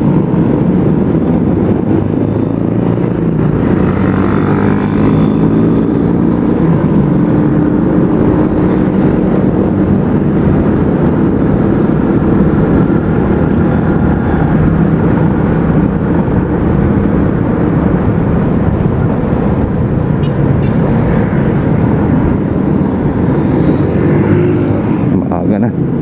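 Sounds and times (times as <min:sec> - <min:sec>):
motorcycle engine drone: 0:00.0 - 0:26.0
rushing wind noise: 0:00.0 - 0:26.0.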